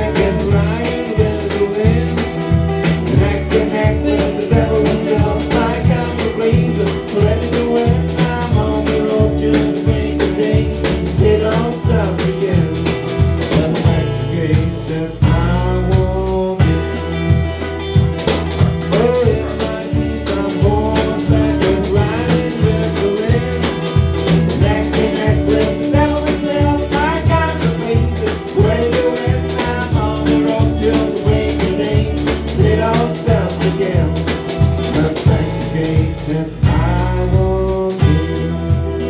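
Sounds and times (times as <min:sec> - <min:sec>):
bass: 0:00.0 - 0:39.0
lead guitar with bent notes: 0:00.0 - 0:39.0
steady drum beat: 0:00.0 - 0:39.0.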